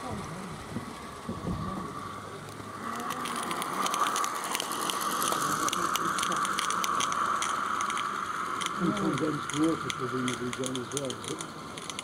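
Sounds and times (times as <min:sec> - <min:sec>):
steam hissing: 0:00.0 - 0:12.0
locomotive wheels clicking: 0:02.2 - 0:12.0.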